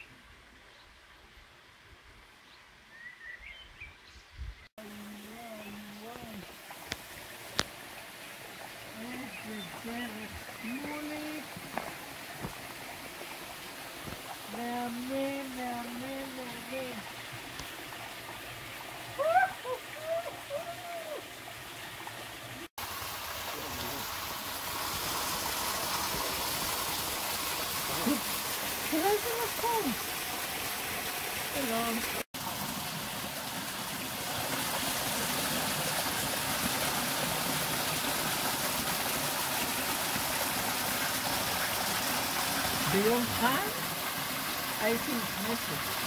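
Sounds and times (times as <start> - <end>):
stream rushing: 5.1 - 46.0
waterfall splashing into pool: 6.4 - 46.0.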